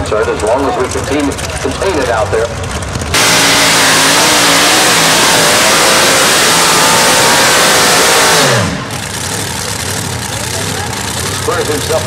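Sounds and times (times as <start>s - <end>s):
tractor engine at full throttle: 0.0s - 12.0s.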